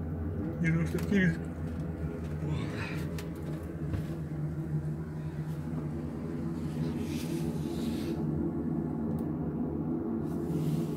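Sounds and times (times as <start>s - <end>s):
helicopter mechanical drone: 0.0s - 10.9s.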